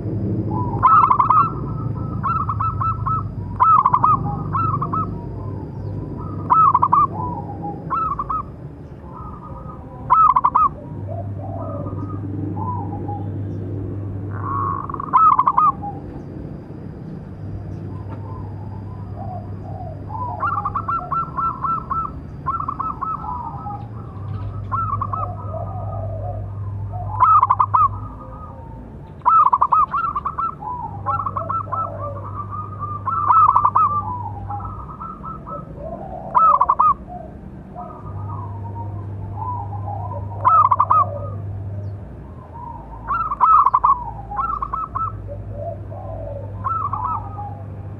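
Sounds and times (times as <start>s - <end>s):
dove cooing trilled notes: 0.0s - 47.9s.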